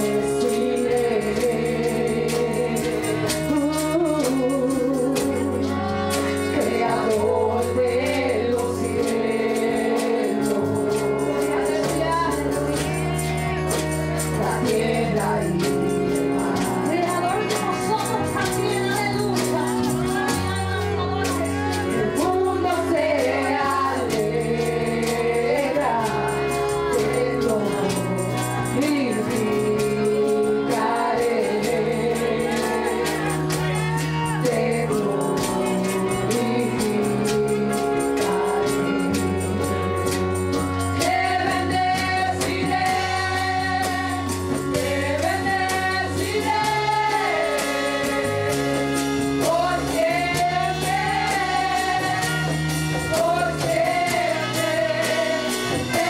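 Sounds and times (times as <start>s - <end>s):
band with bass and percussion: 0.0s - 56.0s
women singing gospel: 0.0s - 56.0s.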